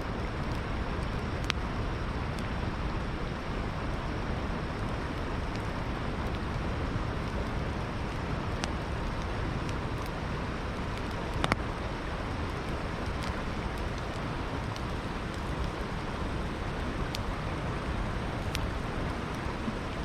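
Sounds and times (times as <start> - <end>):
campfire crackling: 0.0 - 20.0
river water rushing: 2.2 - 20.0.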